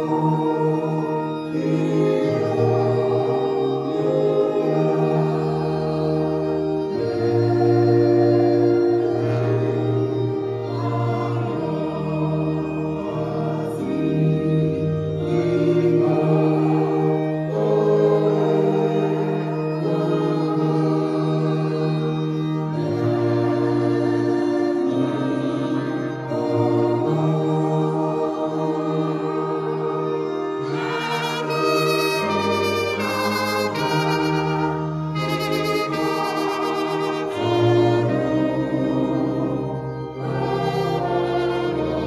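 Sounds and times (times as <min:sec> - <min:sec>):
bowed violins: 0:00.0 - 0:42.0
choir singing a hymn: 0:00.0 - 0:42.0
organ: 0:00.0 - 0:42.0.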